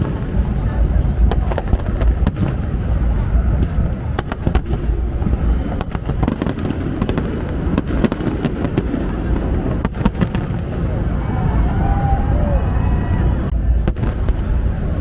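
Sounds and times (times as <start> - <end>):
fireworks cracks and bangs: 0.0 - 15.0
low rumble of fireworks bursts: 0.0 - 15.0.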